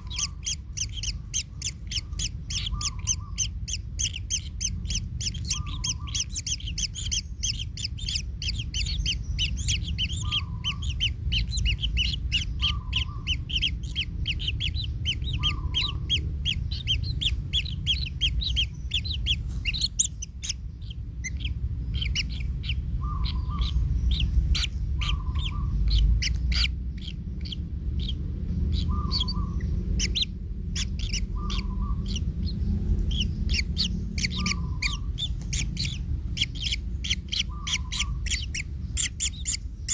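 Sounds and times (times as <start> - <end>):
nestlings chirping: 0.0 - 39.9
steady low rumble: 0.0 - 39.9.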